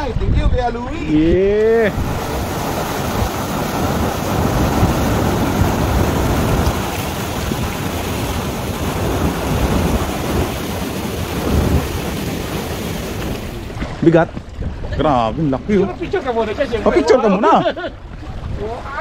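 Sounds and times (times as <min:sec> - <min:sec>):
wind buffeting microphone: 0:00.0 - 0:17.2, 0:17.8 - 0:19.0.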